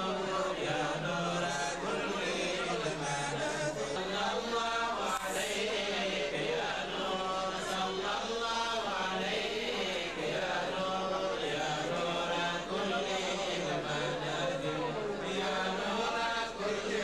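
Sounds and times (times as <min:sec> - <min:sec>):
men chanting into microphones: 0:00.0 - 0:17.0.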